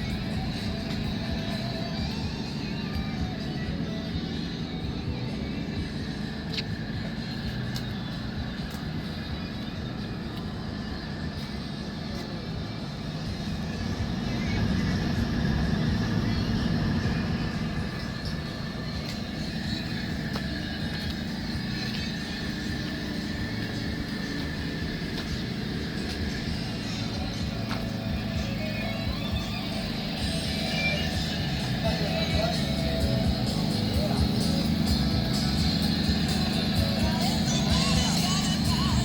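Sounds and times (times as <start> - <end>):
faint voices: 0.0 - 39.0
model aircraft engine drone: 0.0 - 39.0
thin steady whine: 0.0 - 39.0.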